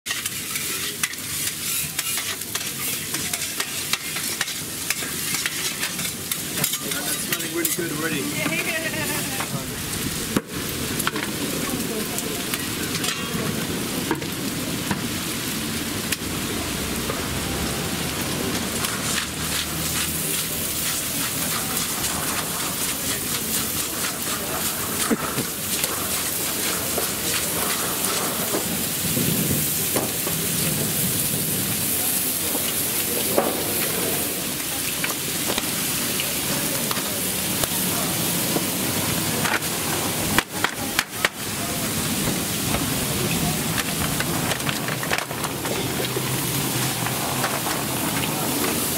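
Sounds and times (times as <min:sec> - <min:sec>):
food sizzling in a pan: 0:00.1 - 0:48.9.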